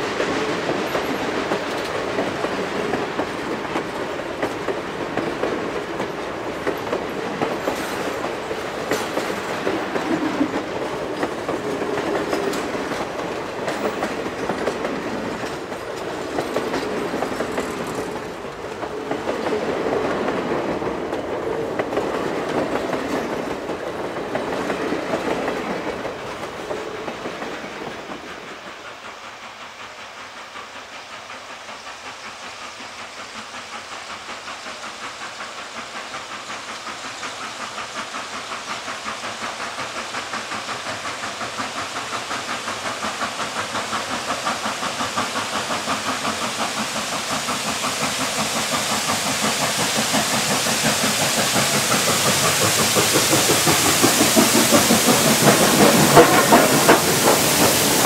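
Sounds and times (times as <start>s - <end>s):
steam locomotive chuffing: 0.0s - 58.0s
train wheels clattering over rails: 0.0s - 58.0s.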